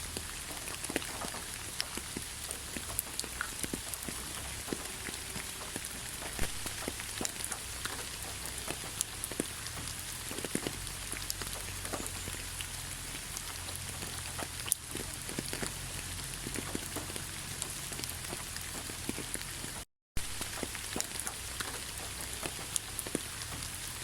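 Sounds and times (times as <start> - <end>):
drips and taps of raindrops: 0.0 - 24.0
rain hiss: 0.0 - 24.0.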